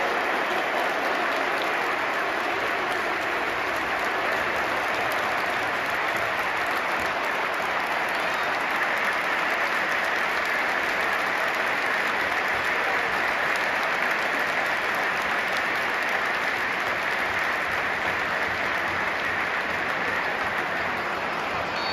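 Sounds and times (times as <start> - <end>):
stadium crowd applauding: 0.0 - 21.9.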